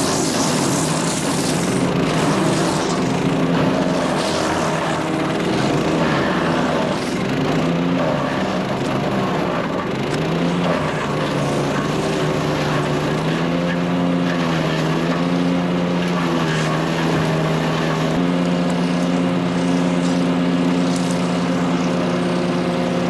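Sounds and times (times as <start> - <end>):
dense grinding noise: 0.0 - 23.0
wood chipper engine running: 0.0 - 23.0.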